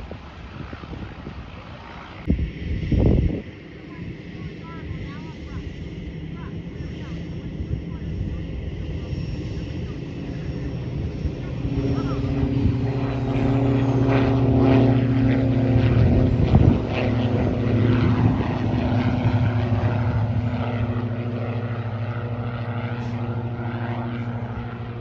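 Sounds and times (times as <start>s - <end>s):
propeller airplane engine: 0.0s - 25.0s.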